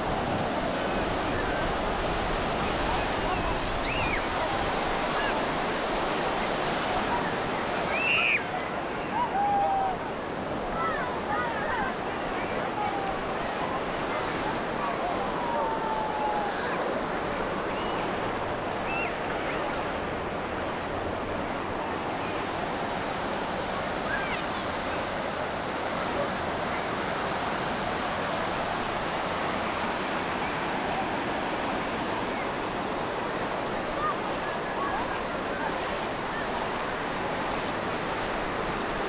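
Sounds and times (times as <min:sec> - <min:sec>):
surf breaking on a beach: 0:00.0 - 0:39.0.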